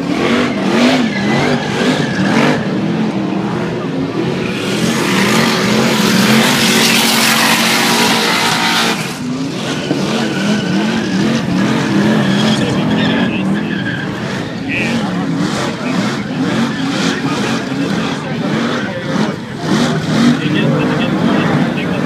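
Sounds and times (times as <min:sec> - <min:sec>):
car engine revving: 0:00.0 - 0:22.0
tyres squealing: 0:04.3 - 0:22.0.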